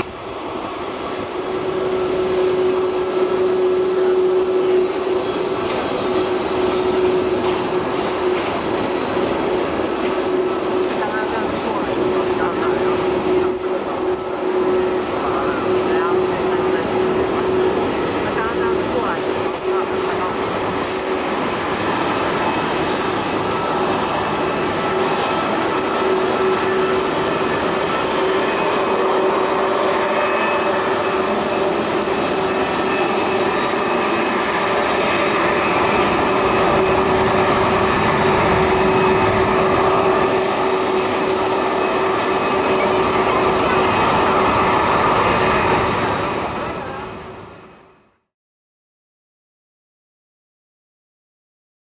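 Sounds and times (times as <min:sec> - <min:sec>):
jet engines whining: 0:00.0 - 0:48.1.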